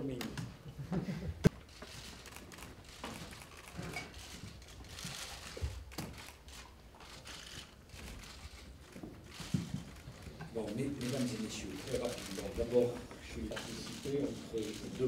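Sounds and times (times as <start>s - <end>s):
rustling: 1.6s - 15.0s.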